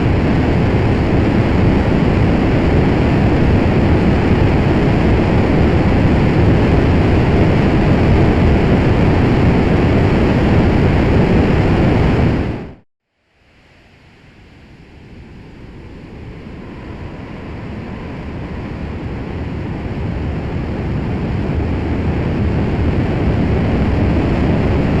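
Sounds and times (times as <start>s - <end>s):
rocket engine rush: 0.0s - 12.8s, 14.0s - 25.0s.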